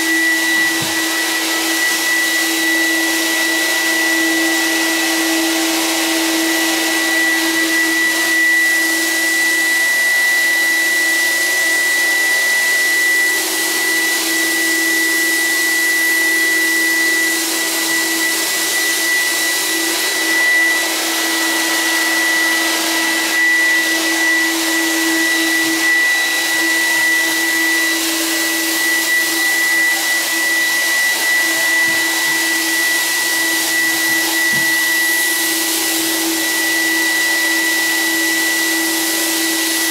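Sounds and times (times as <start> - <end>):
fogger machine whine and hum: 0.0 - 39.9.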